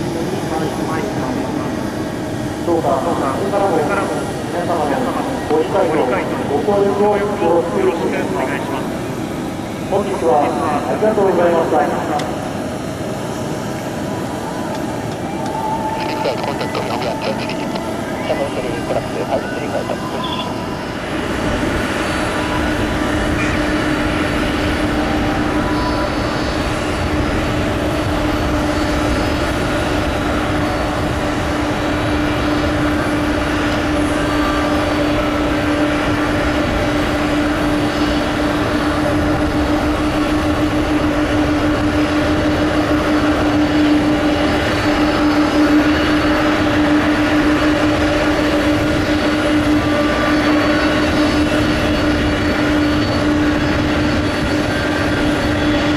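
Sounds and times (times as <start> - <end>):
constant low hum: 0.0 - 55.9
jet engines running: 0.0 - 55.9.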